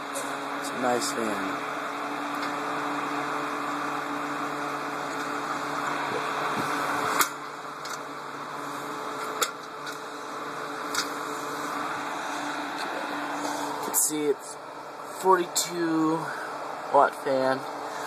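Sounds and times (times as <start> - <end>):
electric heater fan whirring: 0.0 - 18.0.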